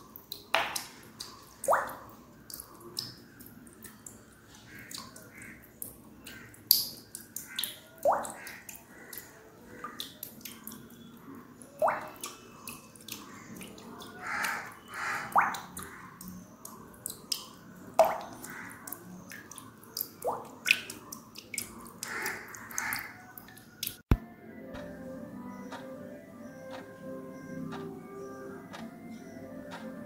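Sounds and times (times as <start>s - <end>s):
water dripping: 0.0s - 24.2s.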